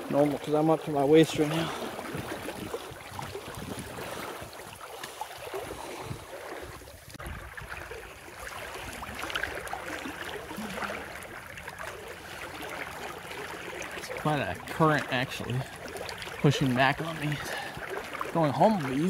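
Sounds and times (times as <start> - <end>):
river water sloshing and swirling: 0.0 - 19.0.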